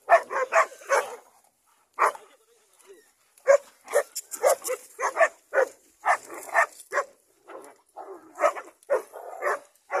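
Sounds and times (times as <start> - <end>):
dogs barking: 0.0 - 1.3, 1.9 - 2.3, 3.4 - 10.0.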